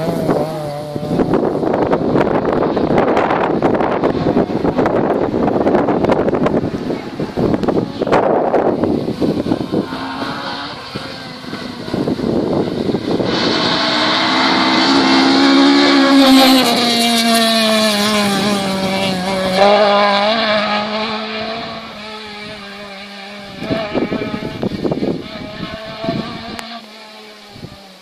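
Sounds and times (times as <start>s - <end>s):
rally car engine at high revs: 0.0s - 28.0s.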